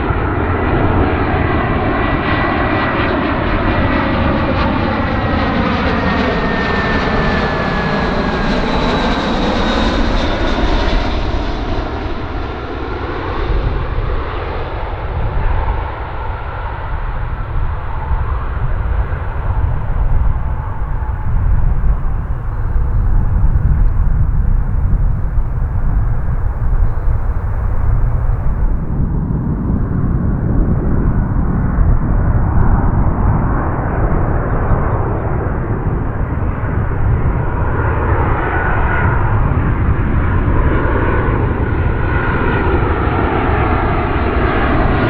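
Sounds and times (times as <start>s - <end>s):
jet engines rumbling: 0.0s - 45.0s.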